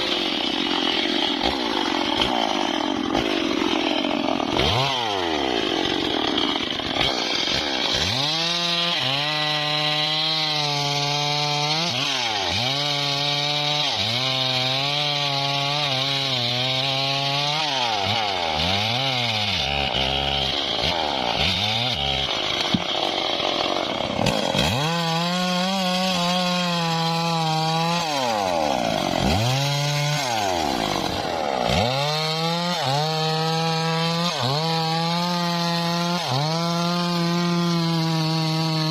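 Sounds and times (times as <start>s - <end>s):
bandsaw cutting wood: 0.0s - 38.9s.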